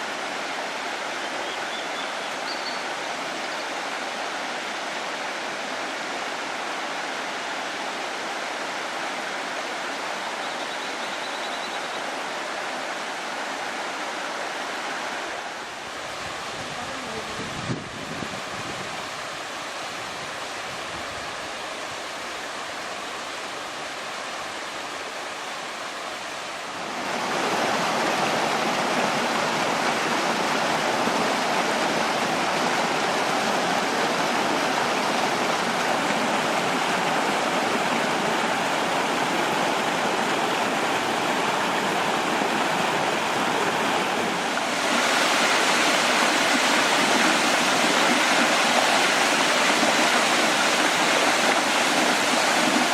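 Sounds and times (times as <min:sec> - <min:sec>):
stream rushing over rocks: 0:00.0 - 0:52.9.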